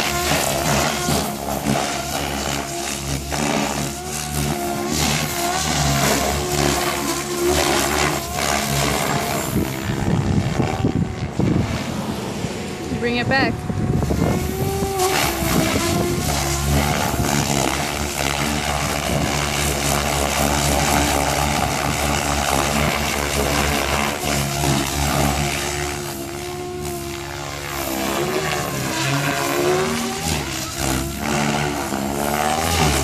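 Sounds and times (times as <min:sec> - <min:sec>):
model helicopter rotor whir: 0:00.0 - 0:33.0.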